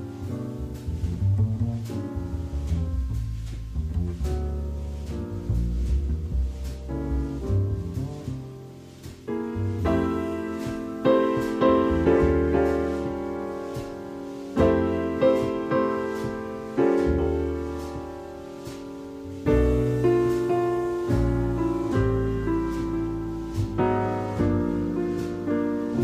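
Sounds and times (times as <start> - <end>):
low bass line: 0.0 - 26.0
piano chords: 0.0 - 26.0.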